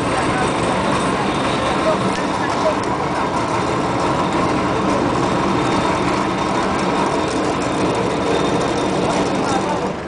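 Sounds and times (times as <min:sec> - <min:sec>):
ferry diesel engine running: 0:00.0 - 0:10.0.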